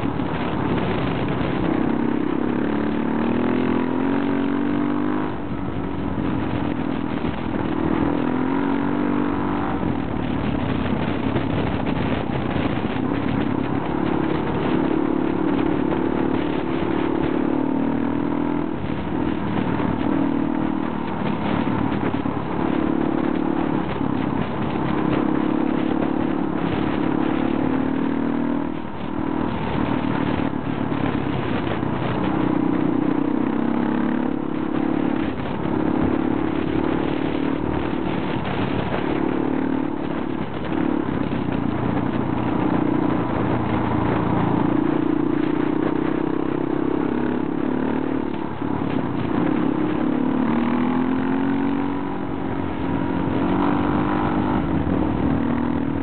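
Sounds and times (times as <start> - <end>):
gravel road noise: 0.0 - 56.0
motorcycle engine revving: 0.0 - 56.0
wind noise: 0.0 - 56.0.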